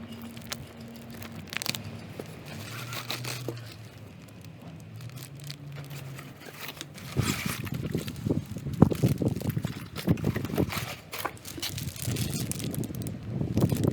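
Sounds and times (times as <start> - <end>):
packaging crinkling and rustling: 0.0 - 13.9.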